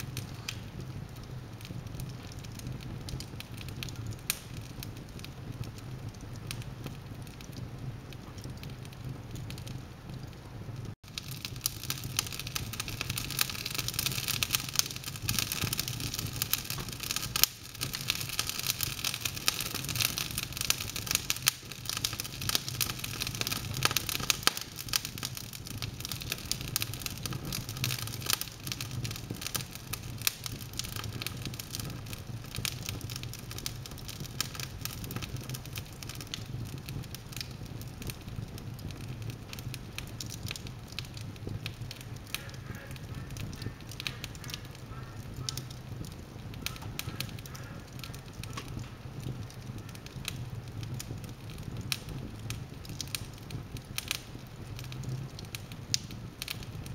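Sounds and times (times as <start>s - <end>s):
soft hiss of flame: 0.0s - 56.9s
wood fire crackling and popping: 0.0s - 56.9s.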